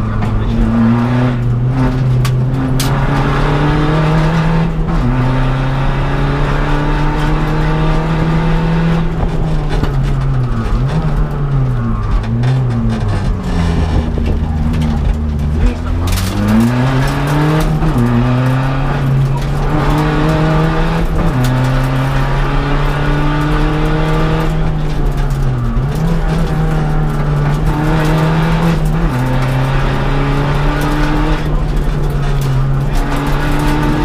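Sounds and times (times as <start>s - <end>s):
engine running hard with gear changes: 0.0s - 34.0s.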